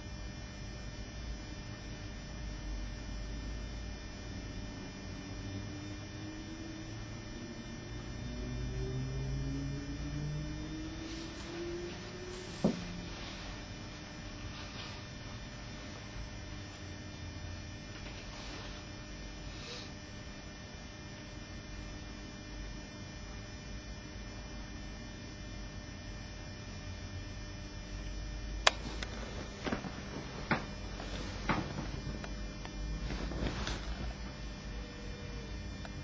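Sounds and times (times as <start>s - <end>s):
low electrical mains hum: 0.0s - 36.0s.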